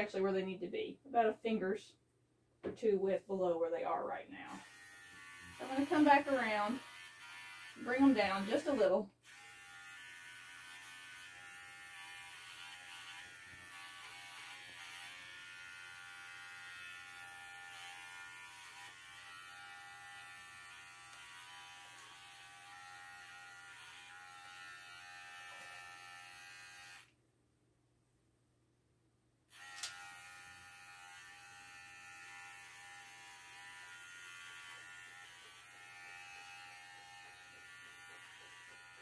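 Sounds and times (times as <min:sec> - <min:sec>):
hair clipper buzzing: 0:04.5 - 0:27.2, 0:29.5 - 0:39.0.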